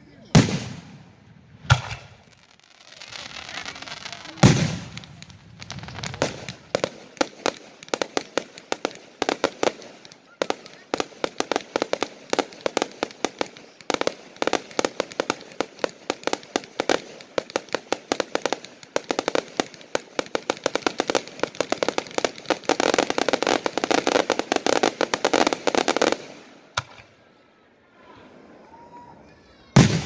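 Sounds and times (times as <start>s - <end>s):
fireworks bangs and crackling: 0.1s - 27.3s, 29.6s - 30.0s.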